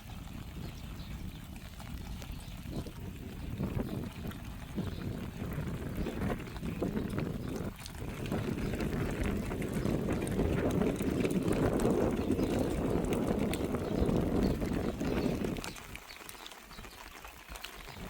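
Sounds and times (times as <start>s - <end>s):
blizzard wind buffeting microphone: 0.0s - 15.9s.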